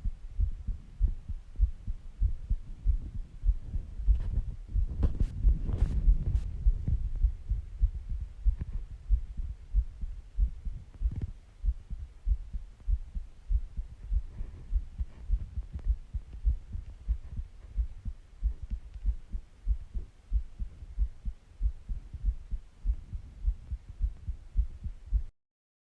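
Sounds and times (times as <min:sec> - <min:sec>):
heartbeat thumps: 0:00.0 - 0:25.3.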